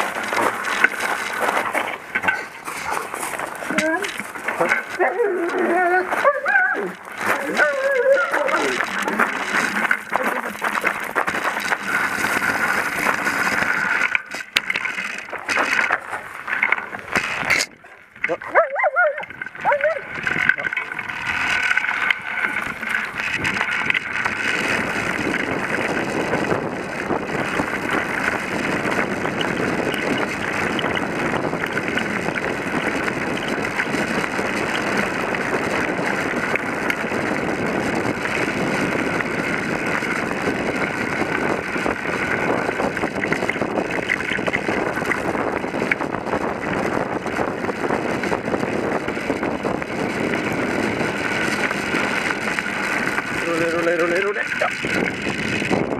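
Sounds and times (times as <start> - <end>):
bicycle tyres rolling on gravel: 0.0 - 55.9
small crunches and rattles: 0.0 - 55.9
wind buffeting microphone: 0.0 - 55.9.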